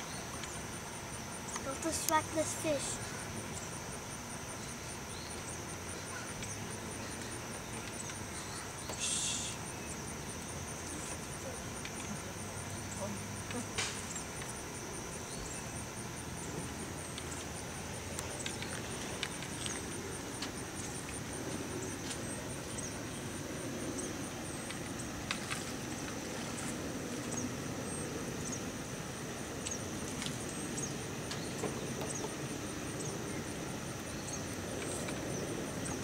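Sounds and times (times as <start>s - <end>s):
insect chorus trilling: 0.0s - 36.0s.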